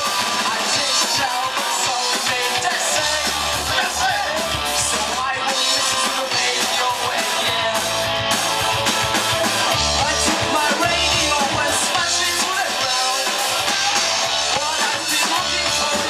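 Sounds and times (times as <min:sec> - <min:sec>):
bass guitar: 0:00.0 - 0:16.0
distorted electric guitars: 0:00.0 - 0:16.0
drum kit: 0:00.0 - 0:16.0
person singing: 0:00.0 - 0:16.0.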